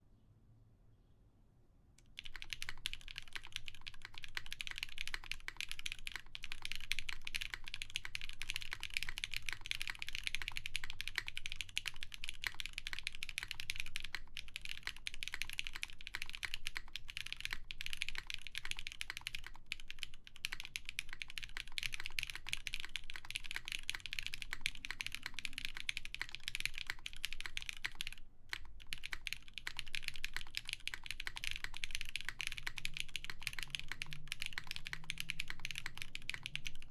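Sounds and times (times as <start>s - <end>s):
mechanical keyboard typing: 2.0s - 36.9s.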